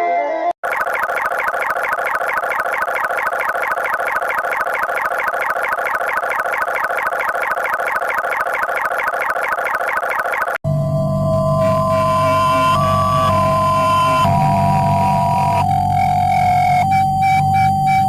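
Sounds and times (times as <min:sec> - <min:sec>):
electronic alarm warble: 0:00.6 - 0:18.0.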